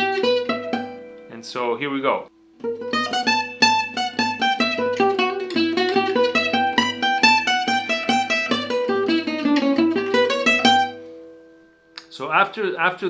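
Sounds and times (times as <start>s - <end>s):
acoustic jazz guitar lick: 0.0s - 1.4s, 2.3s - 12.5s.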